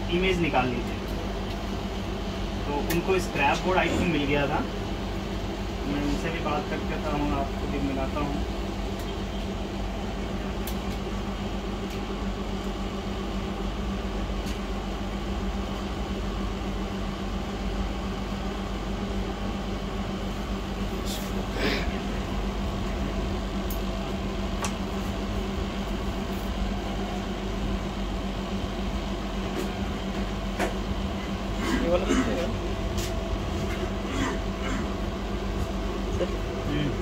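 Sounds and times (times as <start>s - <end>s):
fan-like hum: 0.0s - 37.0s.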